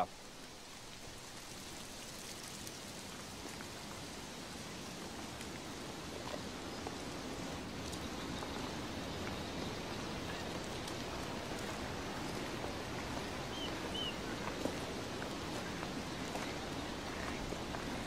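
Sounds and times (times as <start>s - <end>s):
steady ambient hiss: 0.0s - 18.0s.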